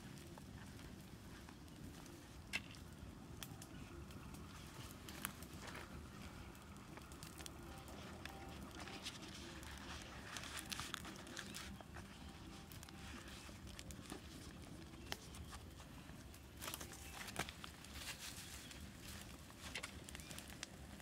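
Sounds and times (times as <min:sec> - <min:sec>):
leaf rustling and crinkling: 0:00.0 - 0:21.0.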